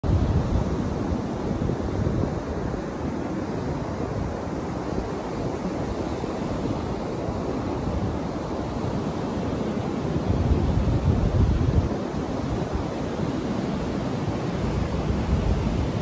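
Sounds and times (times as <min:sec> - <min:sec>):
wind buffeting microphone: 0:00.0 - 0:16.0
ocean surf breaking: 0:00.1 - 0:16.0.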